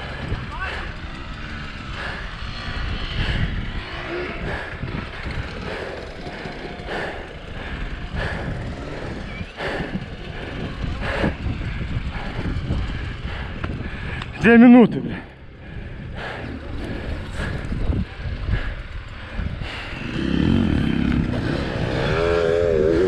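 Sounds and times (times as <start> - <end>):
motorcycle engine at low revs: 0.0 - 23.0
wind buffeting microphone: 0.0 - 23.0.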